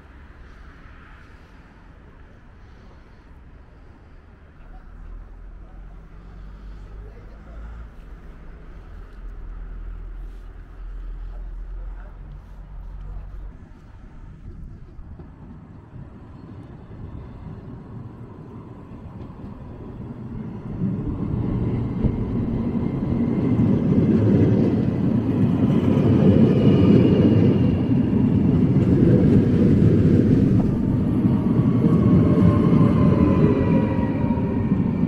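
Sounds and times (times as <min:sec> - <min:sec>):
train wheels rumbling on rails: 0:04.2 - 0:35.0.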